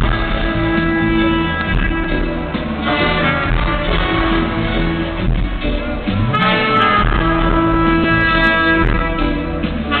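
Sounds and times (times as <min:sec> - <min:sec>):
live band playing: 0:00.0 - 0:10.0.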